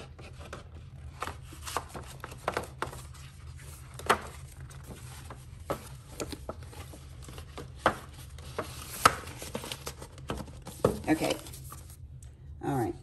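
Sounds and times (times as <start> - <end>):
low steady hum: 0.0 - 13.0
light taps and rustles of packaging: 0.1 - 11.9.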